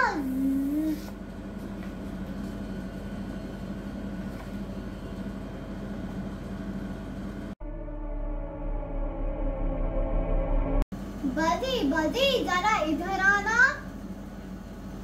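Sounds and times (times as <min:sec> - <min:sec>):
mechanical hum with low drone: 0:00.0 - 0:15.0.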